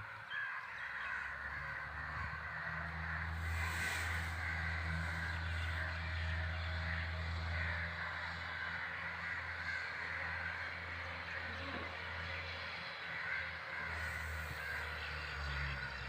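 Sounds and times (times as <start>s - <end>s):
crows cawing: 0.0s - 16.0s.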